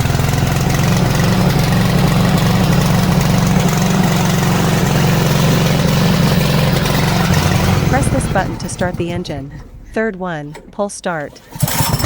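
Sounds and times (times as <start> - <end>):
small gasoline engine running: 0.0 - 9.8, 11.3 - 12.0.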